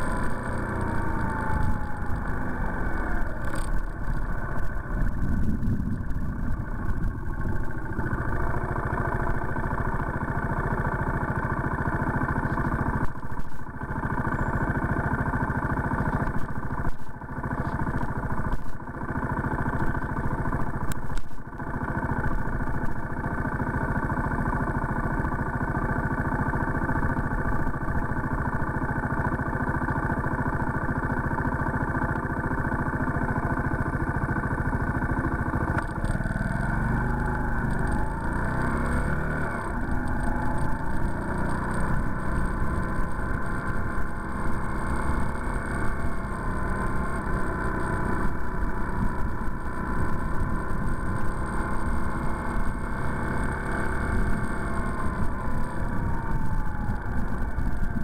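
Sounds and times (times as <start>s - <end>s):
car engine idling: 0.0s - 45.1s, 54.1s - 58.0s
car engine and road noise: 0.0s - 58.0s.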